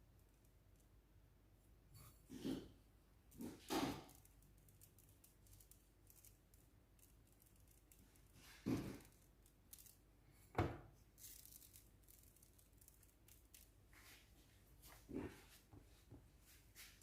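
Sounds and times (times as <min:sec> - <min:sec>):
faint rustling and scraping: 0:01.8 - 0:17.0.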